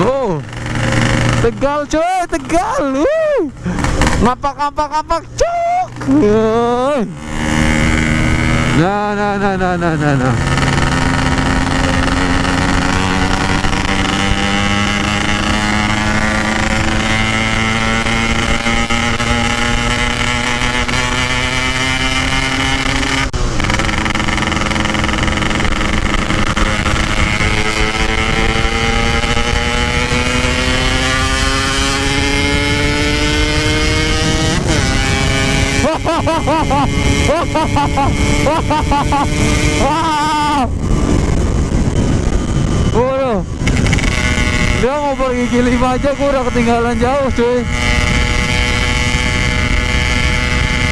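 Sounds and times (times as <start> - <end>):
two-stroke motorcycle engine: 0.0 - 4.4, 5.9 - 50.9.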